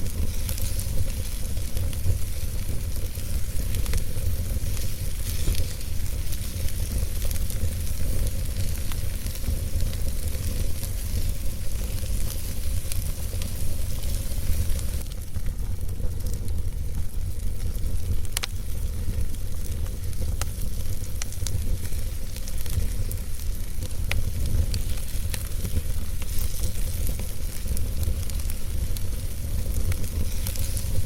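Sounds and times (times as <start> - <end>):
fire rumbling and hissing: 0.0 - 31.0
logs crackling and popping: 0.0 - 31.0.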